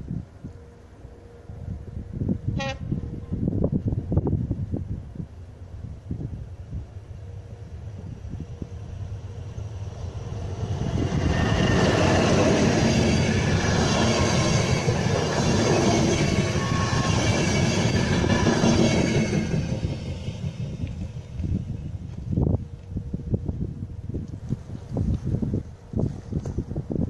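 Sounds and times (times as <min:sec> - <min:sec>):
train wheels rumbling on rails: 0:01.5 - 0:27.0.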